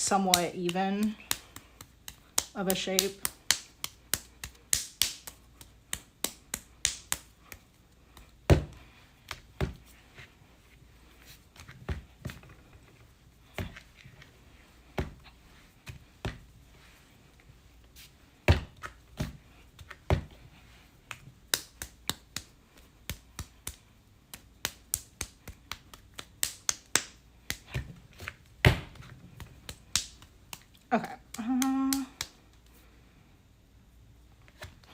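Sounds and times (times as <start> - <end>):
hands slapping soft clay: 0.0 - 10.4, 11.0 - 32.7.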